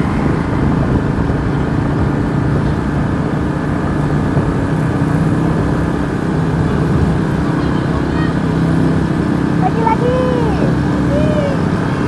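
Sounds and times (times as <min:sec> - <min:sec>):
bus engine low rumble: 0:00.0 - 0:12.0.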